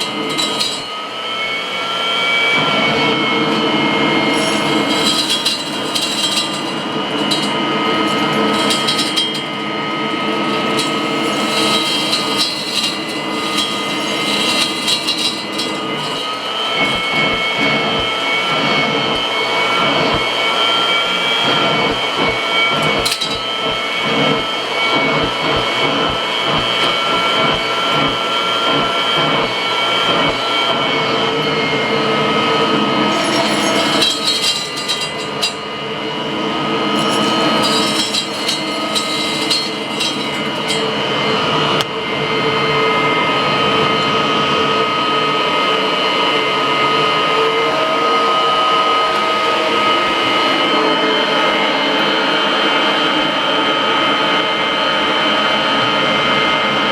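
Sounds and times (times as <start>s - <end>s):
vacuum cleaner motor whine: 0.0s - 56.9s.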